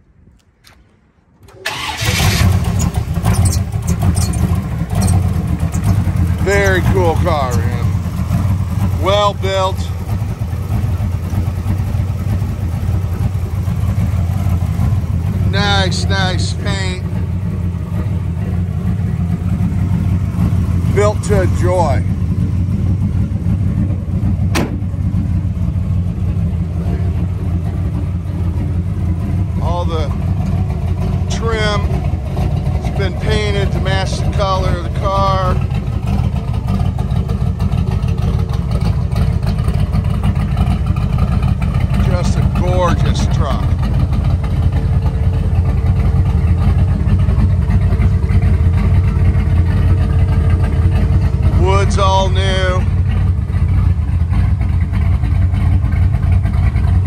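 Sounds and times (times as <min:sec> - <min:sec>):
engine idling low rumble: 0:00.0 - 0:57.0.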